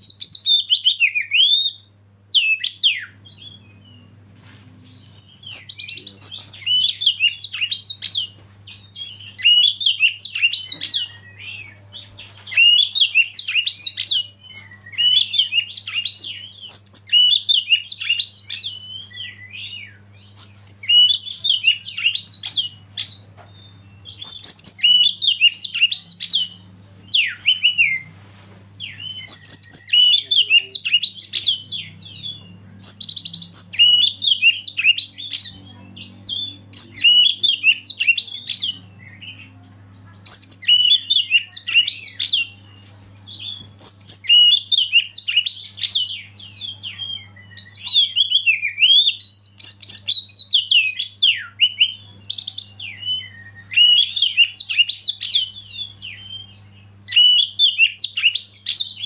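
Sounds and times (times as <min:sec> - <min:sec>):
bird singing whistles and chatter: 0:00.0 - 0:59.0
faint low hum: 0:00.0 - 0:59.0.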